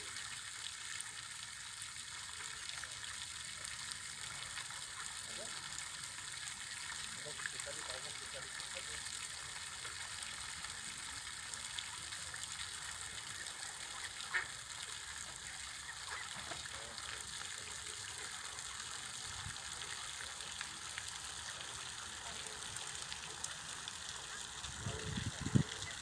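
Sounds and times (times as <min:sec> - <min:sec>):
water birds calling: 0:04.1 - 0:26.0.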